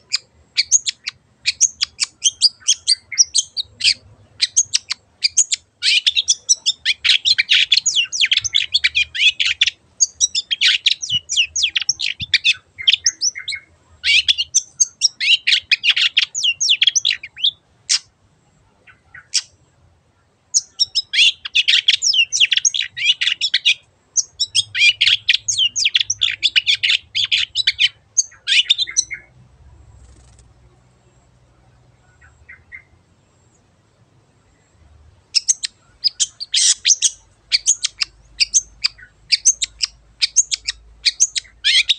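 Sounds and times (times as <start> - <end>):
bird singing scratchy chatter: 0.0 - 41.9.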